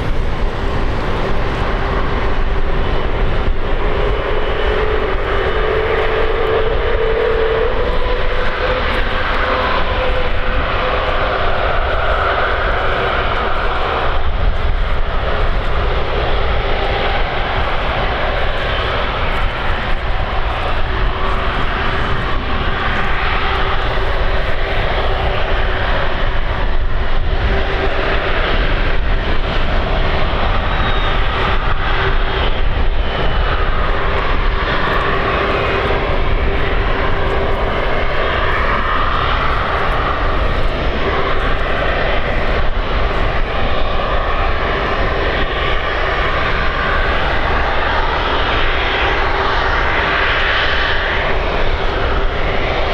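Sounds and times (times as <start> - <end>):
jet engine whine: 0.0 - 52.9
jet engines running: 0.0 - 52.9.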